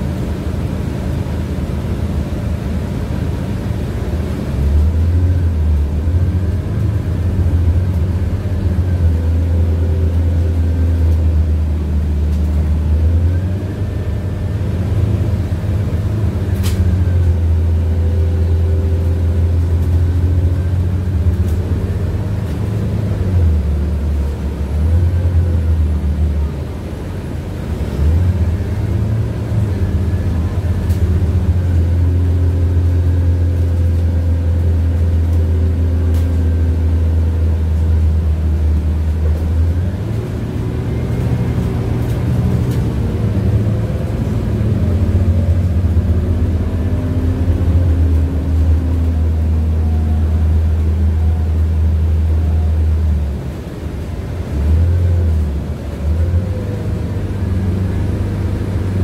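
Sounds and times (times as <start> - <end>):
bus engine and road drone: 0.0 - 59.0.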